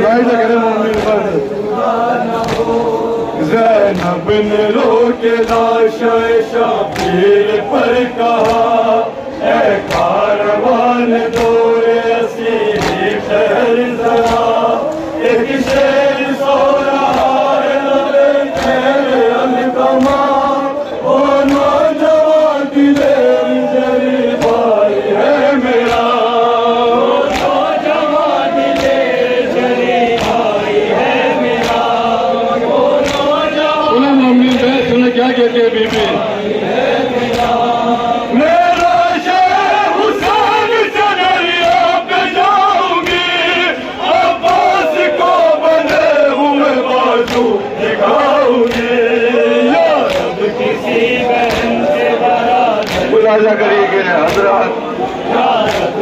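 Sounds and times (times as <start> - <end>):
men chanting in unison: 0.0 - 56.0
person reciting into a microphone: 0.0 - 56.0.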